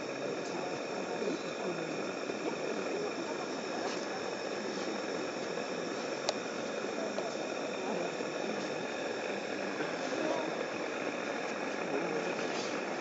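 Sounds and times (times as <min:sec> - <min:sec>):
people talking: 0:00.0 - 0:13.0
steady hiss: 0:00.0 - 0:13.0.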